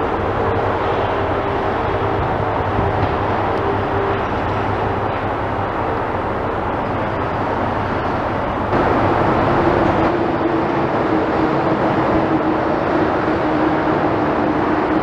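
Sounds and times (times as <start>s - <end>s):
demolition machinery engine rumble: 0.0s - 15.0s.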